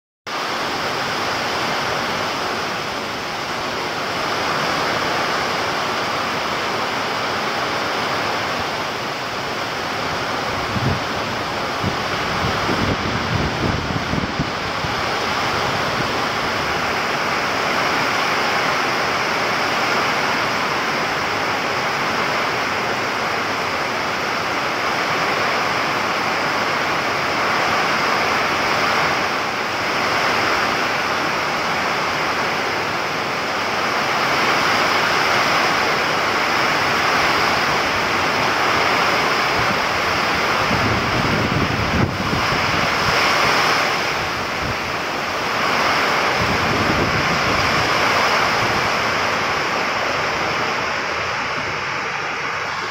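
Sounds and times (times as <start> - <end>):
heavy rain pouring: 0.3 - 52.9
wind gusts buffeting microphone: 0.4 - 52.9.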